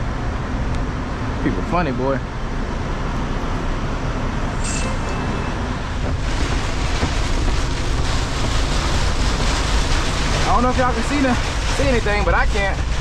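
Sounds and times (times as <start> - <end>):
truck engine rumble: 0.0 - 13.0
wind and rain hiss: 0.0 - 13.0.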